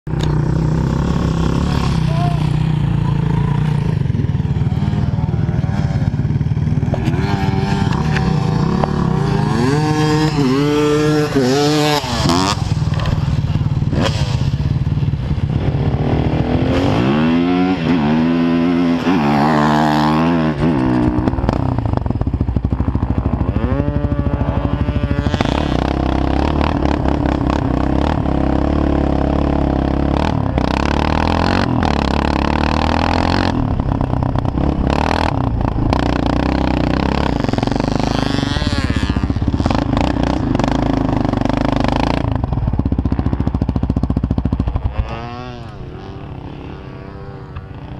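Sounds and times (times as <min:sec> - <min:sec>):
quad bike engine revving: 0:00.1 - 0:47.9.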